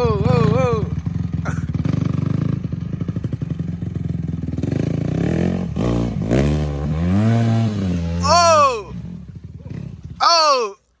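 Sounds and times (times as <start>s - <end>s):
dirt bike engine revving: 0.0s - 10.7s.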